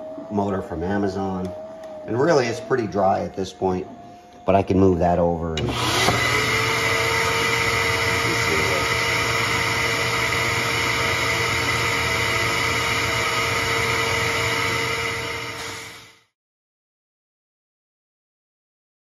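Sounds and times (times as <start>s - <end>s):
shop vacuum whining: 0.0s - 16.3s.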